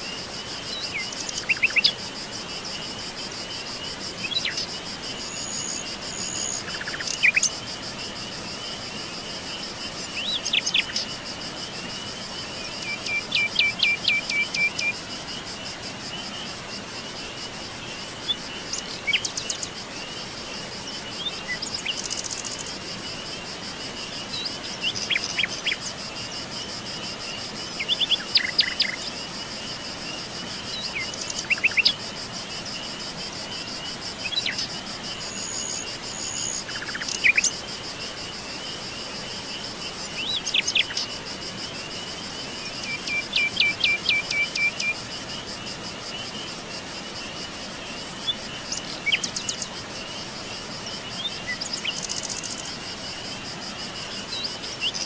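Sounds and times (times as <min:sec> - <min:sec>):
songbirds calling and singing: 0:00.0 - 0:02.1, 0:03.5 - 0:07.8, 0:09.5 - 0:11.2, 0:11.8 - 0:26.3, 0:27.2 - 0:32.0, 0:33.5 - 0:37.7, 0:38.5 - 0:46.6, 0:47.2 - 0:55.0
insects trilling: 0:00.0 - 0:55.0.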